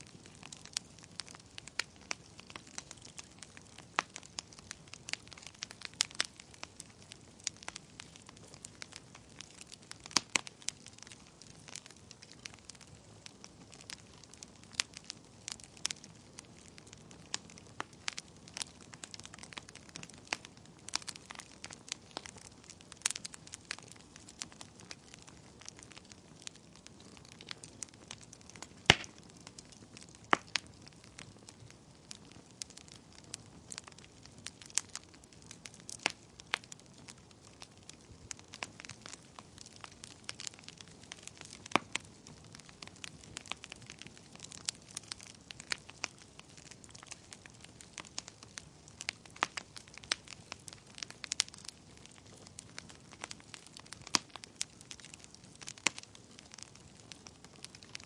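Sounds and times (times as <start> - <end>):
low steady hiss: 0.0 - 58.0
wood fire popping: 0.0 - 58.0.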